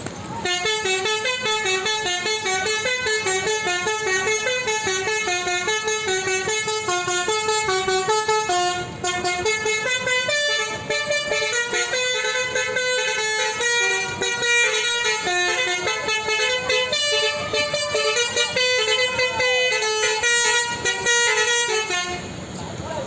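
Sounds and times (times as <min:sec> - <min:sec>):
multi-tone bus horn playing a tune: 0:00.3 - 0:22.6.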